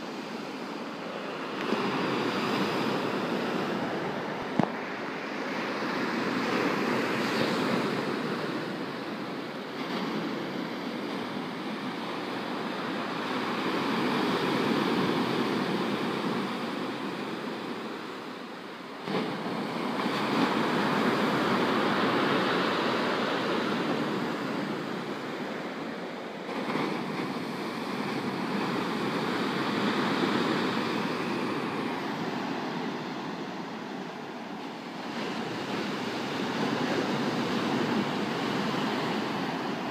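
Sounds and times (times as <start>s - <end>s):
surf washing on stony beach: 0.0s - 39.9s
waves crashing: 0.0s - 39.9s.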